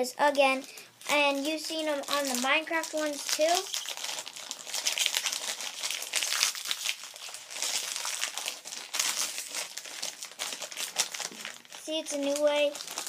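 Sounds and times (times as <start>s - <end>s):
plastic bag crinkling: 0.4s - 13.0s.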